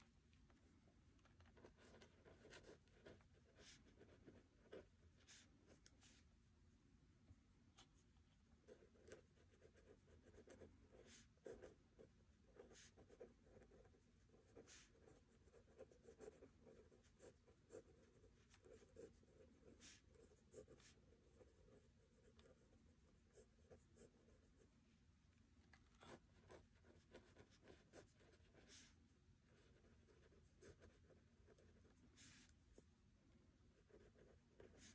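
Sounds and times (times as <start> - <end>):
pen scratching on paper: 1.5 - 6.3, 8.6 - 24.7, 25.9 - 32.6, 33.8 - 34.9.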